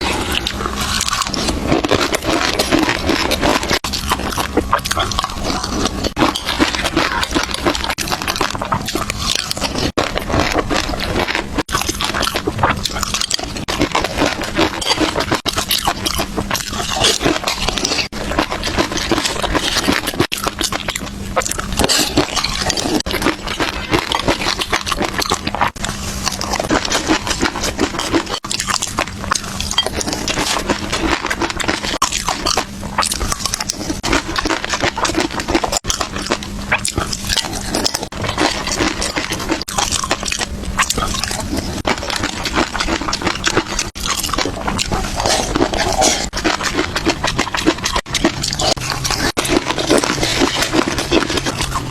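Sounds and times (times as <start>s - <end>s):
faint steady hum: 0.0s - 51.9s
fish roe being chewed: 0.0s - 51.9s.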